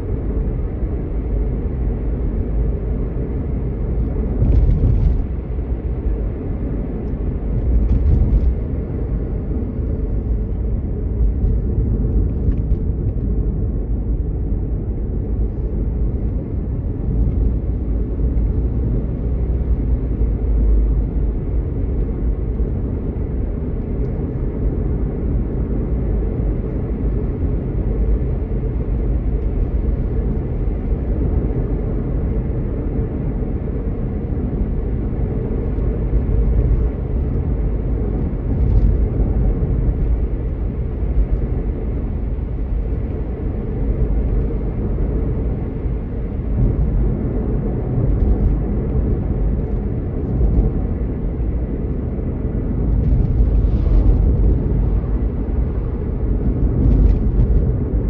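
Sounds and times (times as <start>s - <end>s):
car interior road noise: 0.0s - 58.0s.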